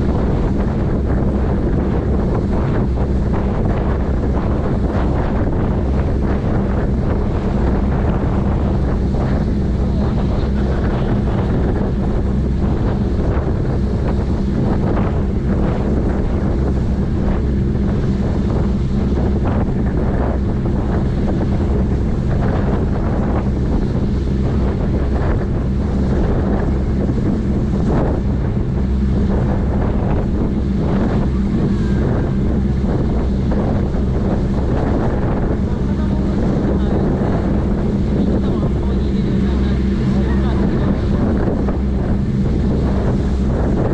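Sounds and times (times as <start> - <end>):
ship engines droning: 0.0 - 43.9
wake churning water: 0.0 - 43.9
wind buffeting microphone: 0.0 - 43.9.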